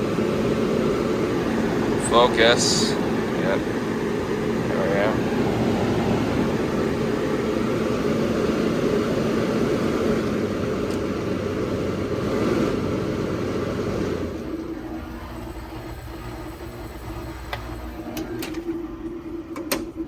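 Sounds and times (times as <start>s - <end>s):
air conditioner fan rushing: 0.0s - 20.0s
low even hum: 0.0s - 20.0s.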